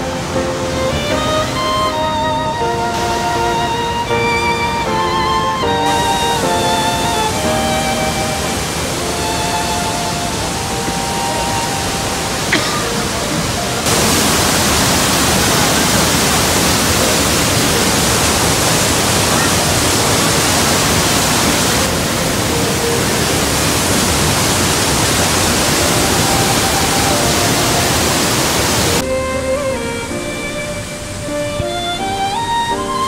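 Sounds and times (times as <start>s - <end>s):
violin music: 0.0s - 33.0s
waterfall roaring: 0.0s - 33.0s.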